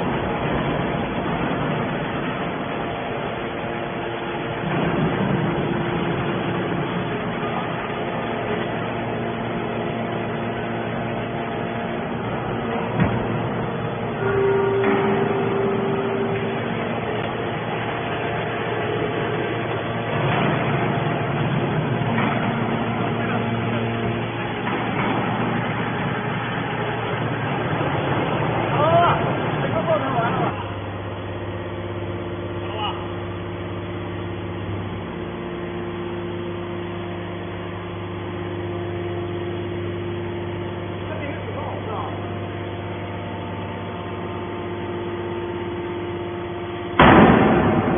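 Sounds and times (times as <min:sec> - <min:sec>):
hydraulic baler running: 0:00.0 - 0:47.9.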